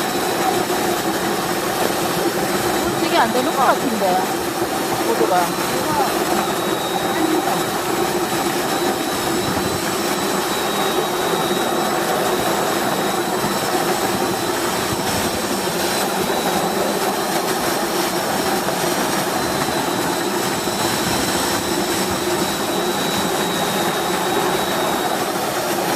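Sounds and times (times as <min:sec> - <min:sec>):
washing machine running: 0:00.0 - 0:25.9.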